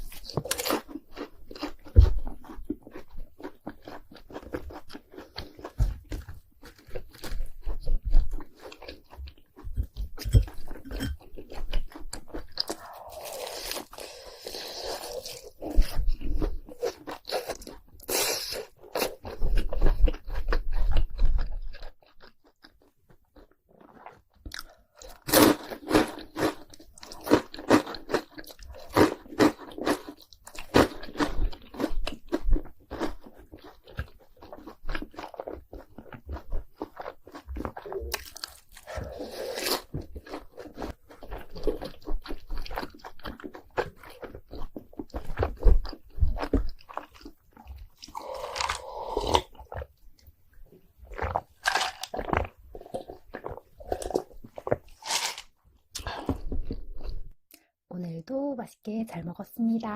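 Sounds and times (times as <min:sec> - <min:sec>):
crunching and chewing: 0:00.0 - 0:57.4.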